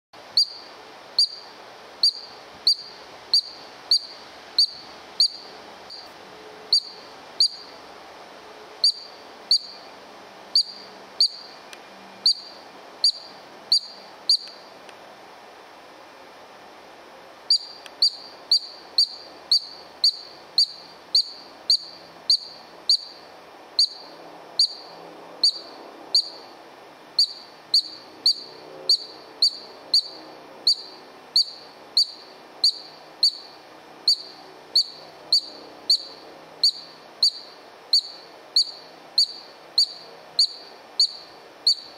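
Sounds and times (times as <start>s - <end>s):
ground squirrel chirping: 0.4s - 6.1s, 6.7s - 7.7s, 8.8s - 9.9s, 10.5s - 11.6s, 12.2s - 14.6s, 17.5s - 26.5s, 27.2s - 41.9s.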